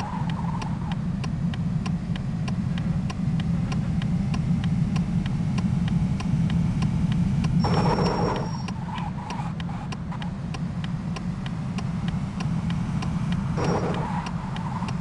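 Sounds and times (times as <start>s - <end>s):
regular ticking: 0.0s - 7.7s, 8.3s - 15.0s
vehicle engine rumbling: 0.0s - 15.0s.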